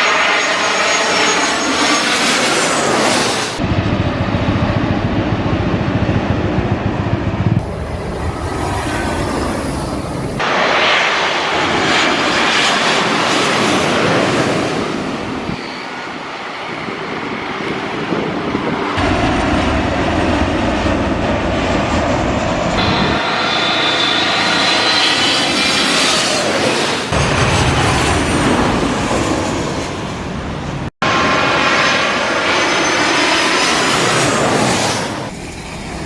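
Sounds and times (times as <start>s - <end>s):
high engine whine: 0.0s - 36.0s
jet engines running: 0.0s - 36.0s.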